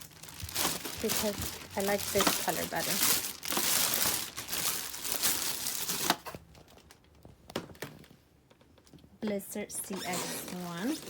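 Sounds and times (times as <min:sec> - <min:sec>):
packaging crinkling and rustling: 0:00.0 - 0:09.0, 0:10.0 - 0:11.0.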